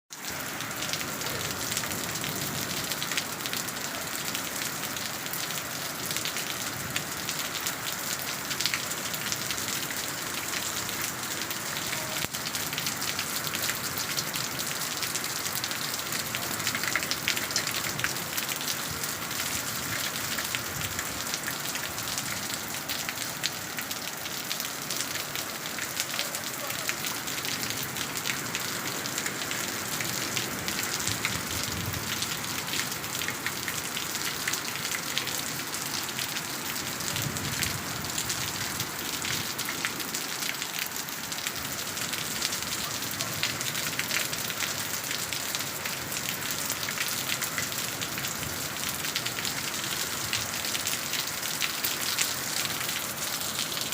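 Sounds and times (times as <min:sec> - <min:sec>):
patter of raindrops: 0:00.1 - 0:53.9
steady rain falling: 0:00.1 - 0:53.9.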